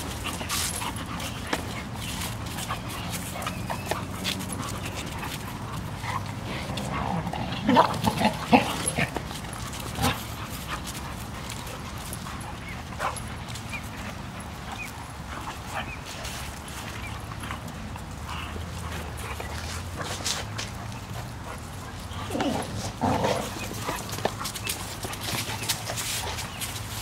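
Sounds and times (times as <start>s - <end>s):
dogs scuffling: 0.0s - 27.0s
dogs vocalising: 0.0s - 27.0s.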